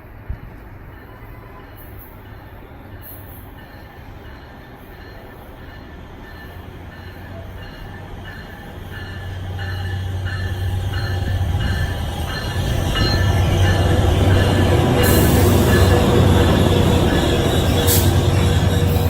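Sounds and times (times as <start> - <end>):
passenger train rumble: 0.0 - 19.0.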